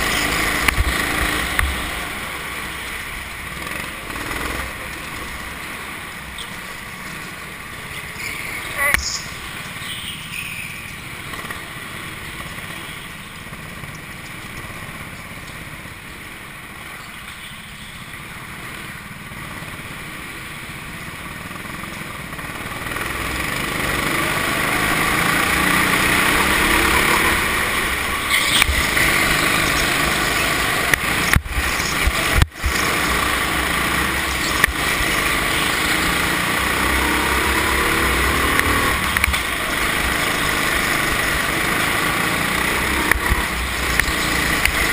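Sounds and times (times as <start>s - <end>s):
go-kart engine racing: 0.0s - 17.4s, 18.0s - 44.9s.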